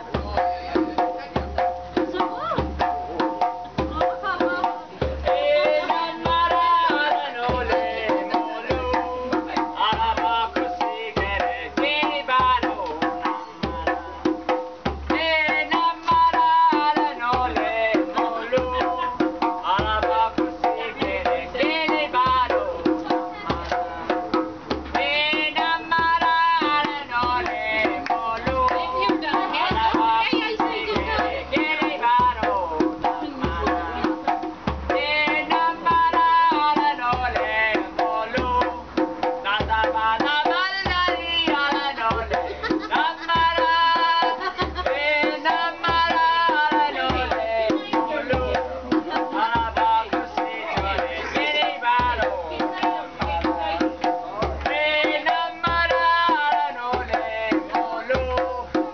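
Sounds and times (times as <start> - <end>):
djembe hand drum: 0.0 - 58.9.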